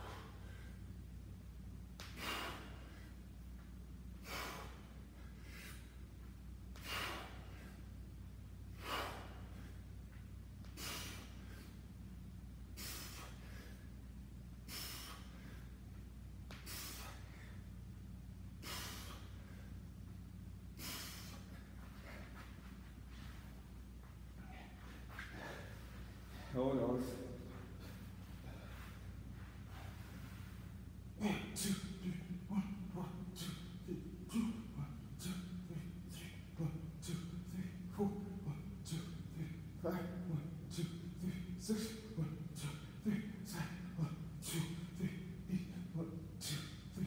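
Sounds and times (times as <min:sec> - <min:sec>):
man breathing heavily: 0:00.0 - 0:47.0
steady low hum: 0:00.0 - 0:47.0.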